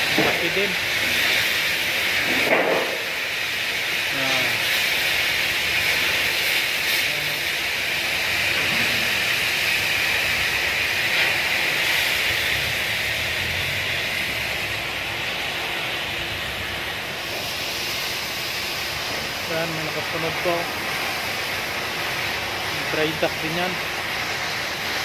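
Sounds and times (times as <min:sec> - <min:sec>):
loud hissing noise: 0:00.0 - 0:25.0.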